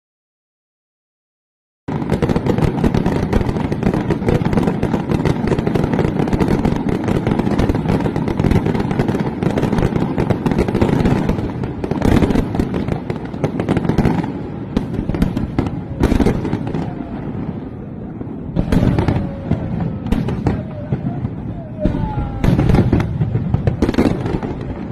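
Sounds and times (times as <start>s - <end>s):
fireworks crackling: 1.9s - 24.9s
loud firework bangs: 1.9s - 24.9s.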